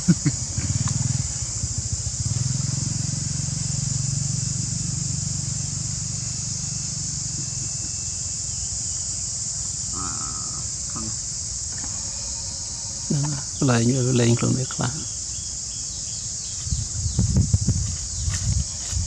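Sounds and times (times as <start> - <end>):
insects droning: 0.0 - 19.0
vehicle engine hum: 0.0 - 19.0.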